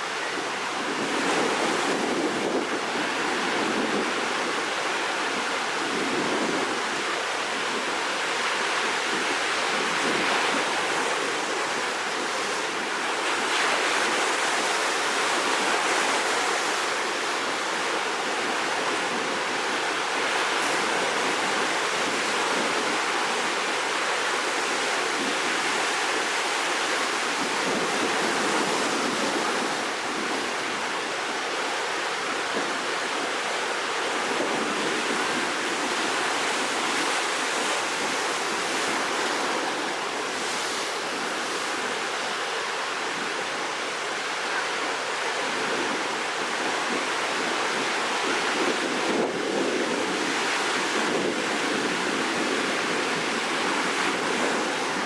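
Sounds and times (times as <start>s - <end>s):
rough sea surf rushing: 0.0s - 55.0s.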